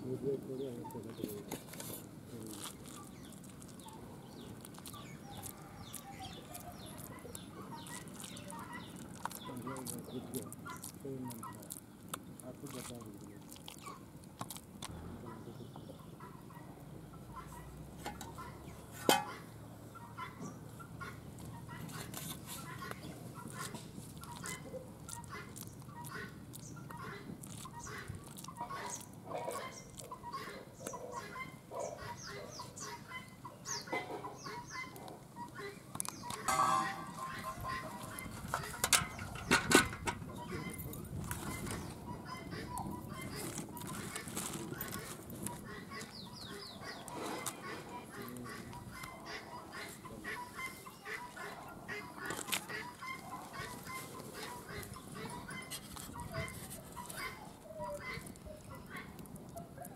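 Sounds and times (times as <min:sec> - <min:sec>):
chickens clucking: 0:00.0 - 0:59.9
small birds chirping: 0:00.0 - 0:59.9.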